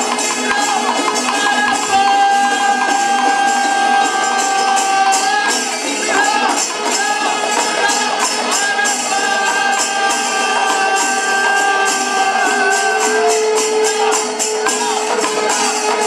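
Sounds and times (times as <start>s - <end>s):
drums: 0.0s - 16.0s
hand cymbals clashing: 0.0s - 16.0s
person singing with pitch glides: 0.0s - 16.0s.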